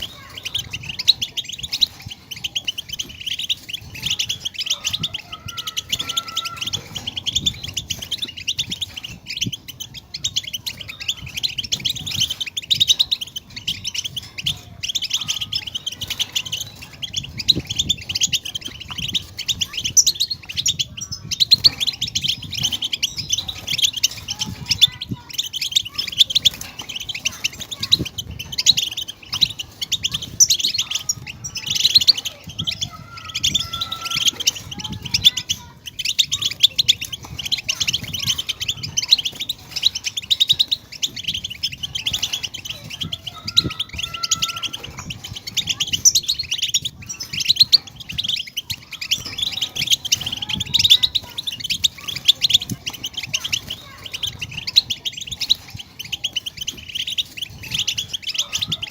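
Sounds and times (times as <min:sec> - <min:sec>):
goldfinch twittering: 0:00.0 - 0:58.9.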